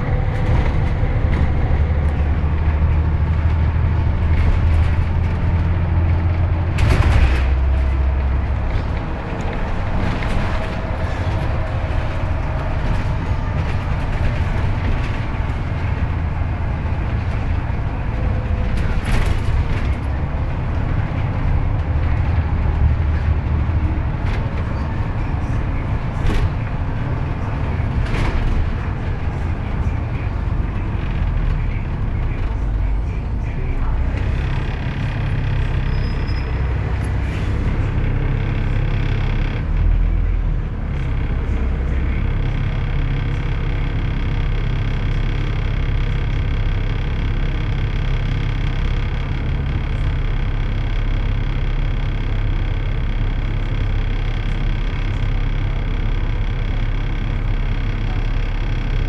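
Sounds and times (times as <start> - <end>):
bus engine rumble: 0.0 - 59.0
road noise: 0.0 - 59.0.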